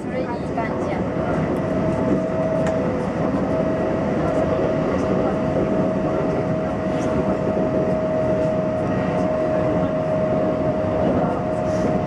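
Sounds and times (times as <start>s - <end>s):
steady train whine: 0.0s - 12.0s
train wheels rumbling on rail: 0.0s - 12.0s.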